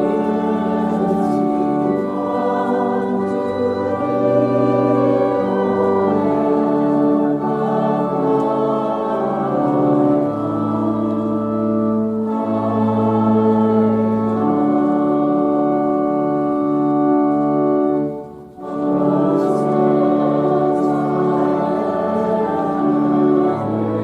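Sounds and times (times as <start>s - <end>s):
organ playing slow chords: 0.0s - 24.0s.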